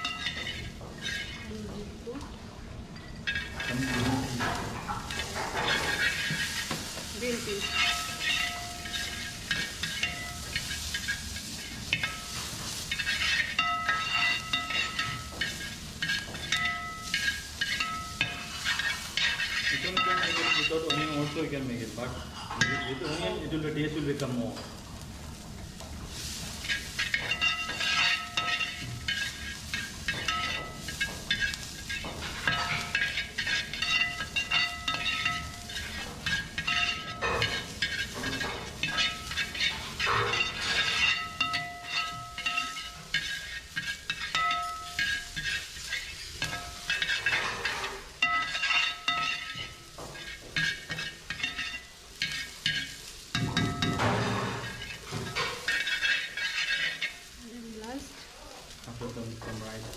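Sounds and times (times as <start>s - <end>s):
metal spoon scraping a pan: 0.0s - 1.6s, 3.0s - 59.9s
vegetables sizzling in a pan: 0.0s - 59.9s.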